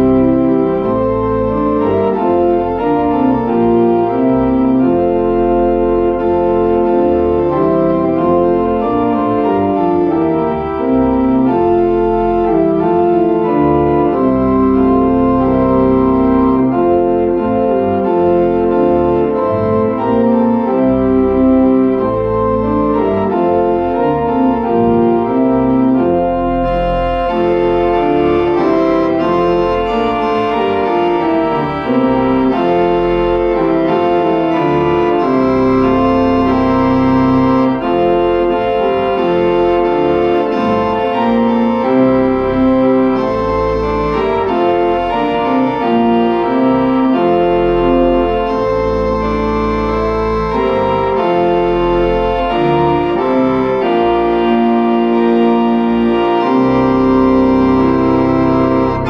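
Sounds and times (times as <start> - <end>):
church organ playing a hymn: 0.0 - 59.0.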